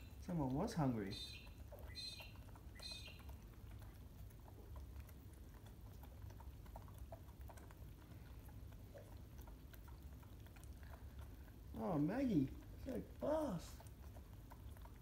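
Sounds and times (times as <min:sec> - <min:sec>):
wet suckling clicks: 0:00.0 - 0:15.0.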